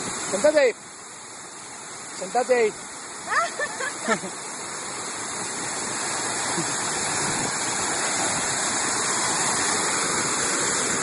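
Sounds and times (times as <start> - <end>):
waterfall splashing on rock: 0.0 - 11.0.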